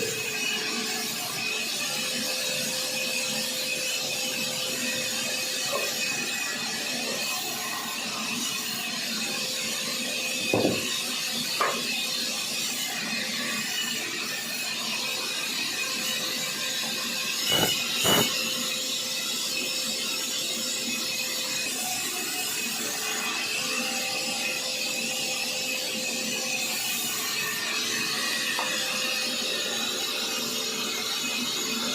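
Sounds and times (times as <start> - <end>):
sawmill saw whining: 0.0 - 31.9.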